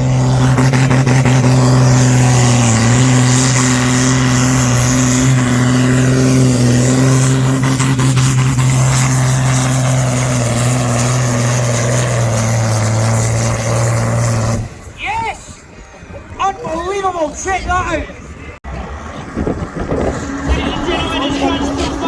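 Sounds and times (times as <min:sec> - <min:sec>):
tractor engine at high pitch: 0:00.0 - 0:15.0, 0:18.6 - 0:22.0.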